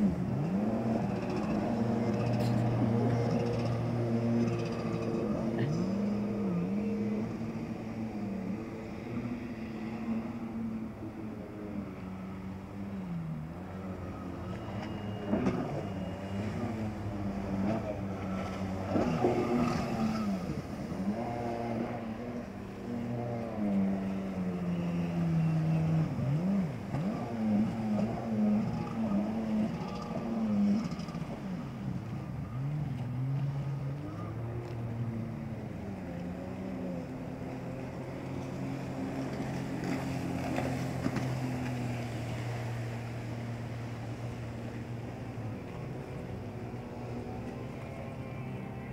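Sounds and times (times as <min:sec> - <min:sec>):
jet ski engines: 0:00.0 - 0:48.9.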